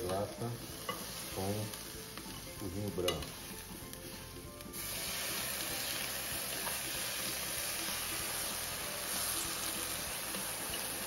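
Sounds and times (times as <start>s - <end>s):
wine sizzling in hot pan: 0.0s - 11.0s.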